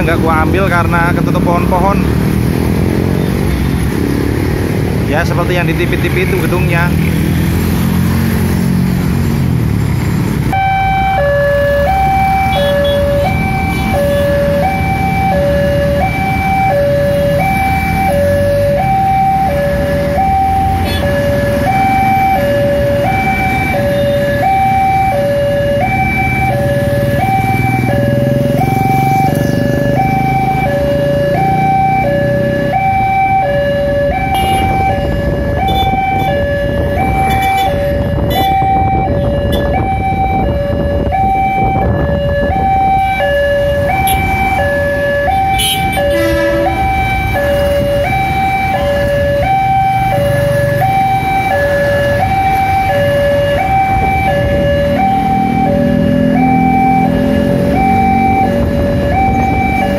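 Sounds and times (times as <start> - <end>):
road traffic: 0.0 - 59.9
level crossing two-tone alarm: 10.5 - 59.9.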